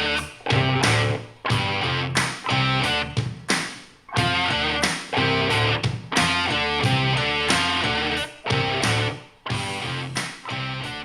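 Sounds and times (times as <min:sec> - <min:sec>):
strong bass line: 0:00.0 - 0:03.3, 0:04.2 - 0:10.8
strummed guitar chords: 0:00.0 - 0:03.5, 0:04.1 - 0:11.0.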